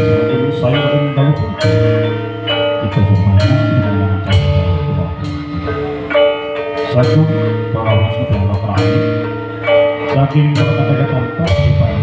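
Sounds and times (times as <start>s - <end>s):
deep drum tones: 0.0s - 6.2s, 6.9s - 12.0s
metal mallet instruments ringing: 0.0s - 12.0s
sharp struck accent: 0.0s - 12.0s.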